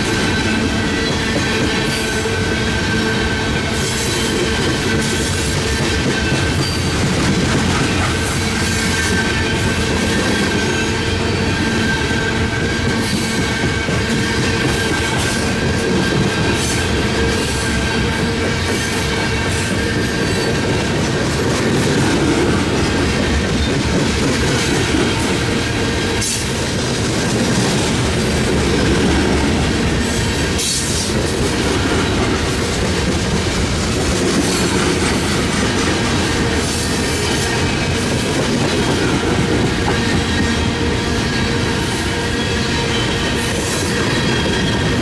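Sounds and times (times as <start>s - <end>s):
clickety-clack over rail joints: 0.0s - 45.0s
train wheels rumbling on rail: 0.0s - 45.0s.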